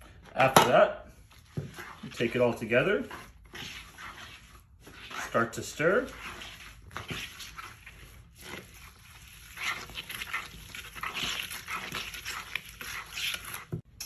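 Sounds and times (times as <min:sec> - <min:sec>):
spoon stirring wet food in bowl: 0:00.4 - 0:14.0.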